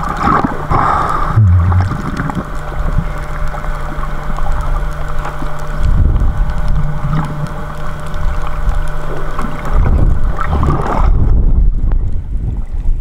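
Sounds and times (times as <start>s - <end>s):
faint steady hum: 0.0s - 13.0s
muffled underwater rumble: 0.0s - 13.0s.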